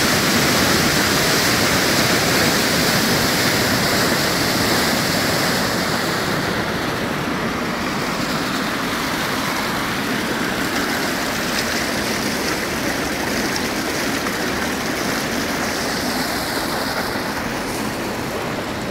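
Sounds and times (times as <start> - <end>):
floodwater rushing: 0.0 - 18.9.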